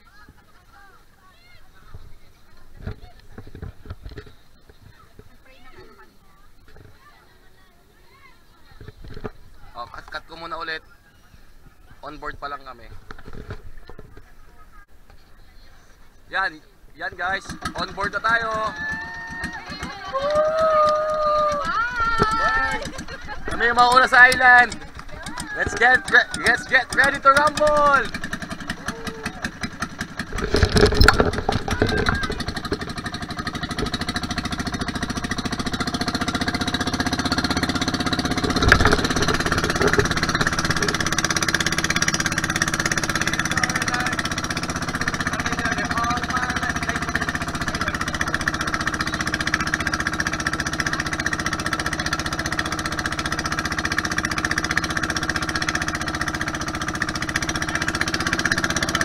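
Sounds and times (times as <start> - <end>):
boat engine running: 0.0 - 10.8, 16.4 - 59.0.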